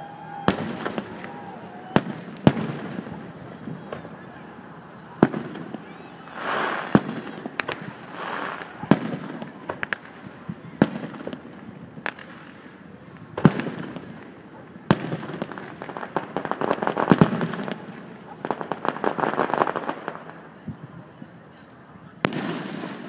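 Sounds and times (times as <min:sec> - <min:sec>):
fireworks bursting: 0:00.0 - 0:21.3, 0:22.1 - 0:23.0
fireworks crackling: 0:00.0 - 0:23.0.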